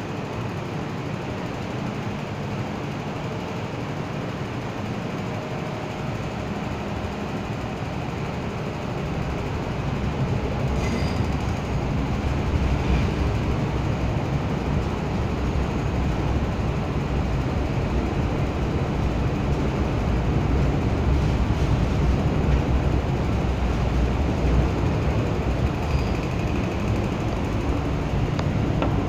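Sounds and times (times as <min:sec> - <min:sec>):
electric train rumbling: 0:00.0 - 0:29.0.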